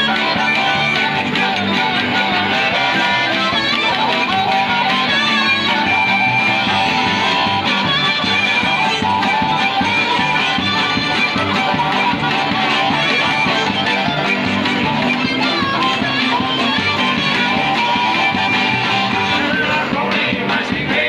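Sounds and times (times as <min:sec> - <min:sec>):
fiddle: 0:00.0 - 0:20.0
harmonica: 0:00.0 - 0:20.3
acoustic guitar: 0:00.0 - 0:21.0
banjo: 0:00.0 - 0:21.0
upright bass: 0:00.0 - 0:21.0.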